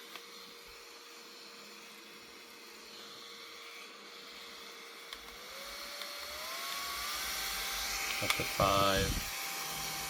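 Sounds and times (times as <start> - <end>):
small fan motor whine: 0.0 - 10.0.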